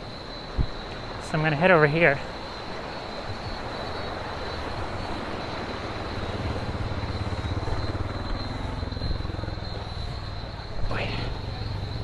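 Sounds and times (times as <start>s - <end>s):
high insect whine: 0.0s - 12.0s.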